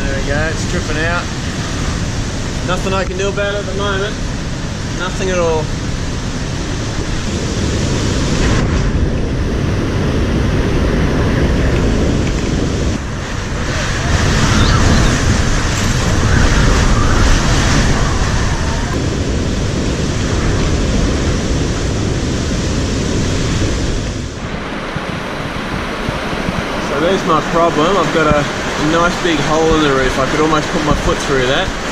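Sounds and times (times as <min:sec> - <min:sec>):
heavy rain battering house: 0:00.0 - 0:31.9
strong wind: 0:00.0 - 0:31.9.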